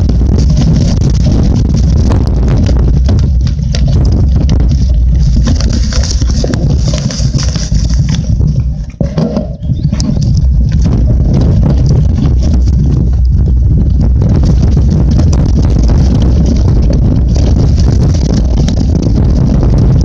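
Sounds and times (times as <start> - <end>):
mountain bike rumbling on dirt trail: 0.0 - 20.0.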